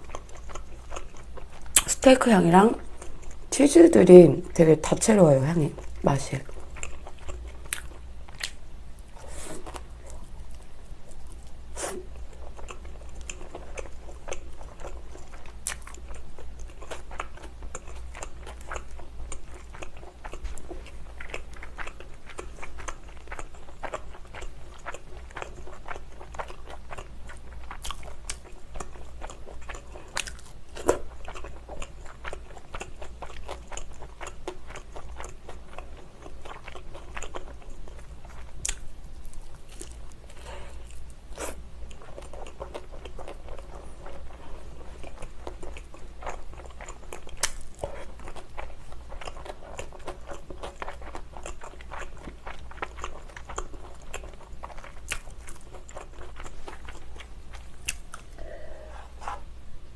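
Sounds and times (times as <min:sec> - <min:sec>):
chewing pizza crunches: 0:00.0 - 0:02.0, 0:09.6 - 0:58.4
faint low hum: 0:00.0 - 0:59.9.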